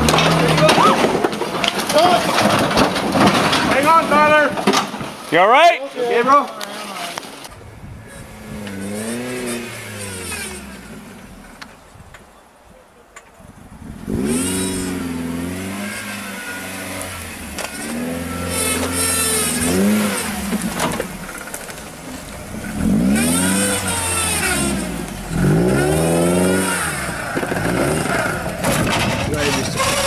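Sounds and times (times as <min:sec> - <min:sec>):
off-road vehicle engine revving: 0:00.0 - 0:04.6, 0:07.5 - 0:11.9, 0:13.6 - 0:30.0.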